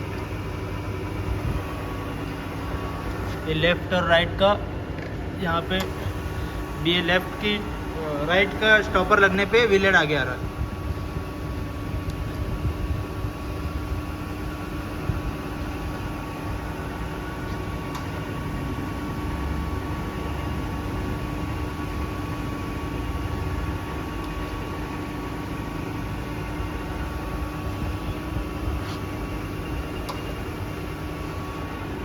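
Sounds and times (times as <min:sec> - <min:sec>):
grinding machine hum: 0:00.0 - 0:32.0.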